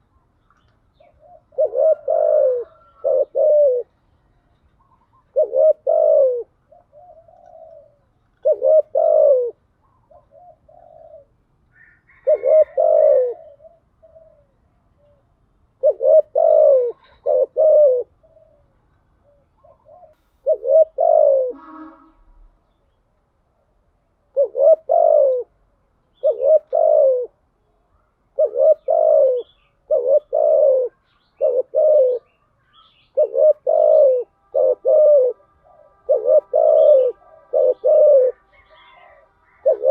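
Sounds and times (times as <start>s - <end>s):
dove cooing: 0.9s - 22.4s, 24.2s - 39.9s.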